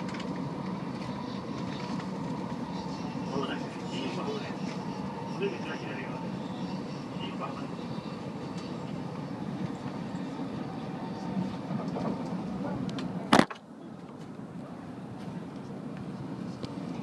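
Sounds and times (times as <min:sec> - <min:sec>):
train rumble from inside cabin: 0:00.0 - 0:17.0.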